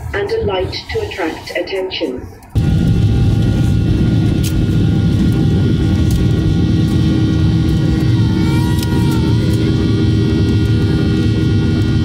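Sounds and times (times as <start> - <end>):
jet engines at takeoff: 0.0 - 12.0
wheels rumbling on runway: 2.3 - 12.0.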